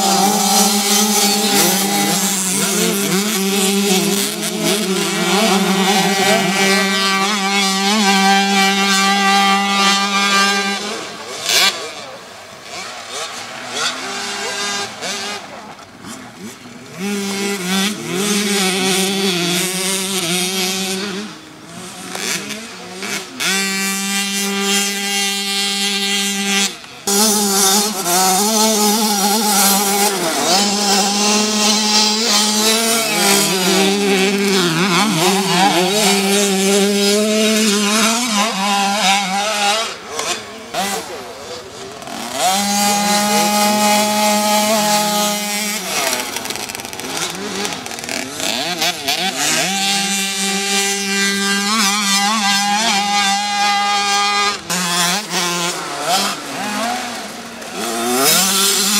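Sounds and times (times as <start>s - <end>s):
motocross bike engines revving: 0.0s - 58.9s.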